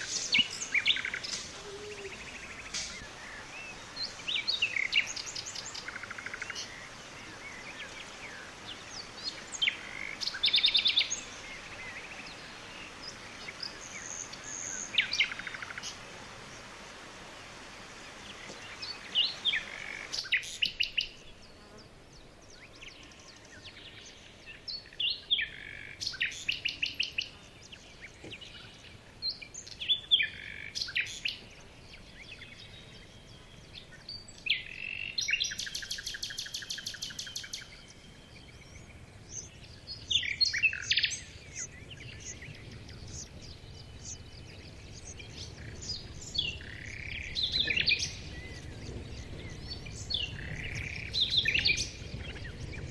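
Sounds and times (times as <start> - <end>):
birds singing: 0.0 - 52.9.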